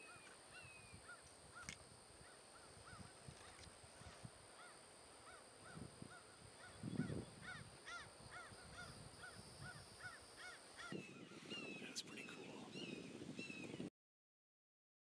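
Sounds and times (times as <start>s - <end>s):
faint bird calls: 0.0s - 13.9s.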